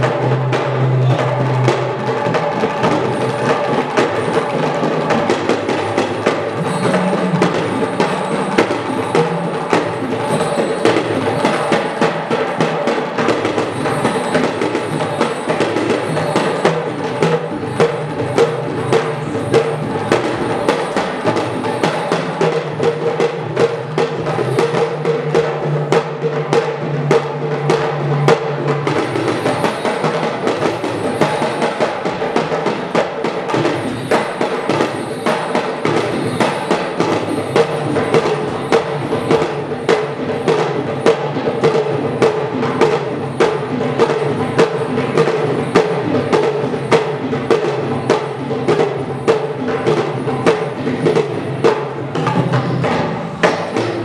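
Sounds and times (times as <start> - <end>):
rapid drum strikes: 0.0 - 54.0.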